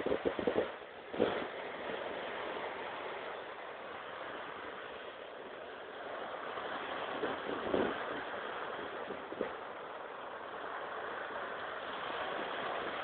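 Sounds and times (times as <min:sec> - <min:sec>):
sea waves washing up a beach: 0:00.0 - 0:13.0
wind buffeting microphone: 0:00.0 - 0:13.0.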